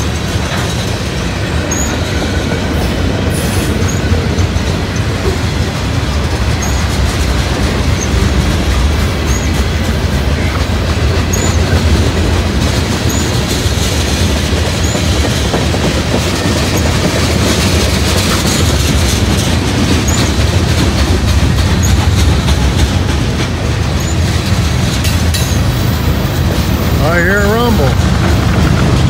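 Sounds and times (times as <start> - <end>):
train wheels clacking over rail joints: 0.0 - 29.0.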